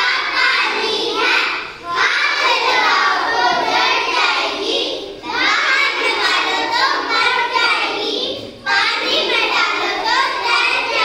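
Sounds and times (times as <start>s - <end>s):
girls singing in unison: 0.0s - 11.0s.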